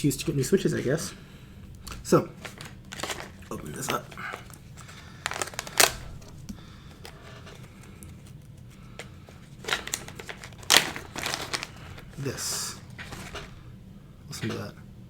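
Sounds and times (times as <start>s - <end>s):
plastic rustling: 0.0s - 14.7s.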